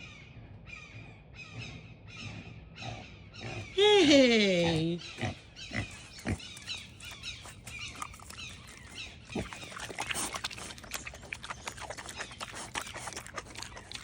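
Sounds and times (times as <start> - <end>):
pig grunting: 1.5 - 14.0.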